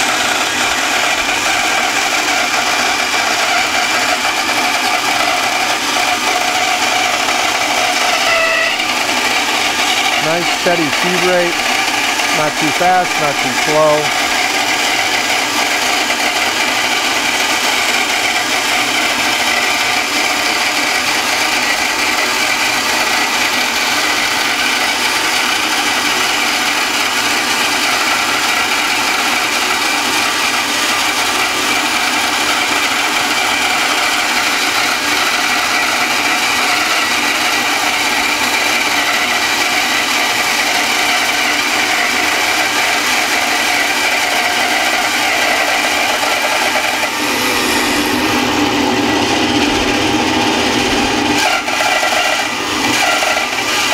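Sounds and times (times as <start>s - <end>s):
bandsaw cutting a board: 0.0s - 53.9s.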